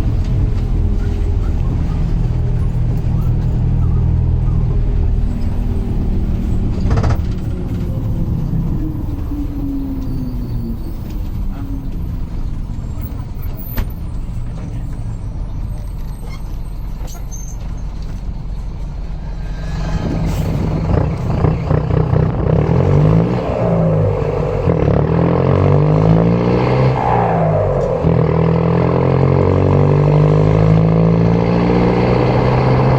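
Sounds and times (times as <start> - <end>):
bus diesel engine running: 0.0 - 32.9.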